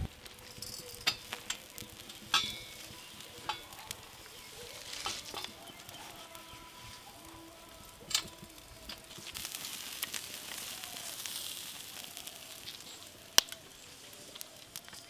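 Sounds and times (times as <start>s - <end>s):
meat sizzling over charcoal: 0.0s - 15.0s
sharp cracks: 0.0s - 15.0s.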